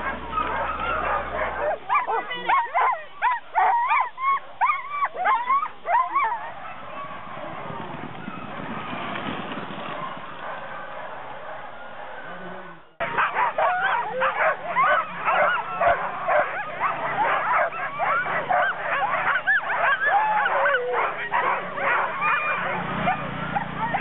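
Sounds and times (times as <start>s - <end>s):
sled dogs barking and yipping: 0.0s - 24.0s
steady background noise: 0.0s - 24.0s.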